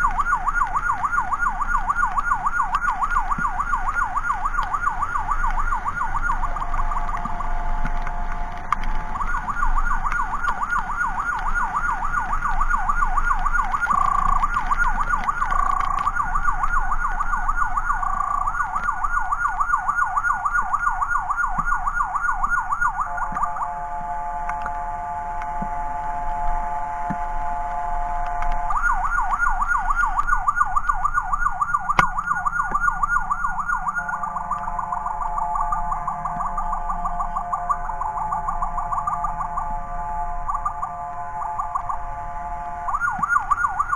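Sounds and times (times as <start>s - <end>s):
electronic siren yelping: 0.0s - 43.9s.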